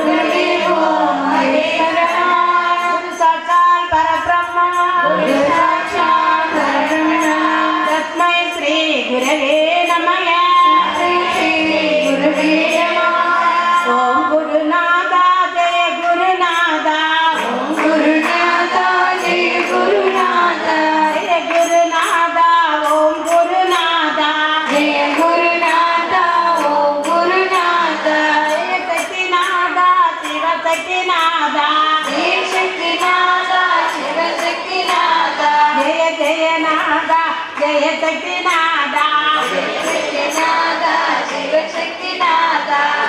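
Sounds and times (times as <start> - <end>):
women singing in unison: 0.0 - 43.0.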